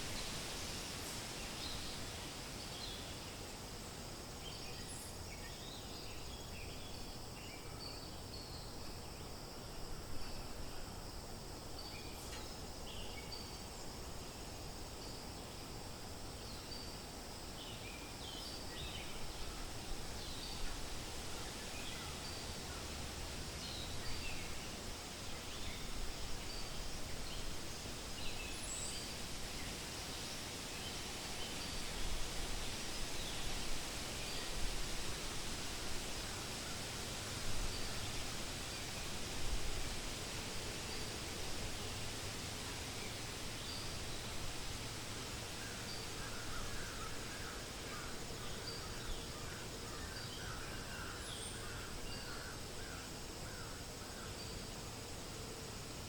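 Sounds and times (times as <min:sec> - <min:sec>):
wind rustling leaves: 0:00.0 - 0:56.0.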